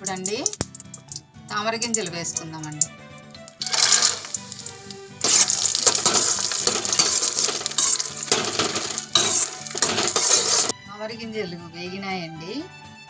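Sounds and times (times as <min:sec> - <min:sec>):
light sizzle: 0:00.0 - 0:10.7
seeds rattling in metal pan: 0:00.0 - 0:10.7.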